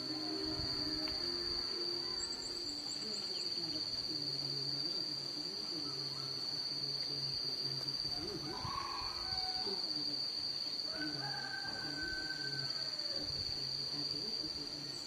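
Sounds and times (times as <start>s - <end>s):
faint wavering sounds: 0.0s - 15.0s
insects trilling: 0.0s - 15.0s.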